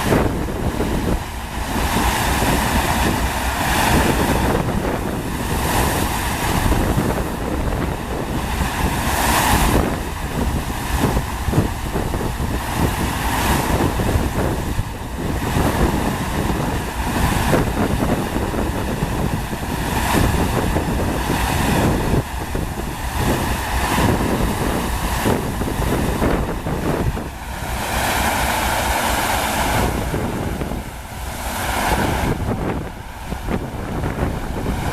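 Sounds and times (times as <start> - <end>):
rushing water: 0.0 - 34.9
wind buffeting microphone: 0.0 - 34.9.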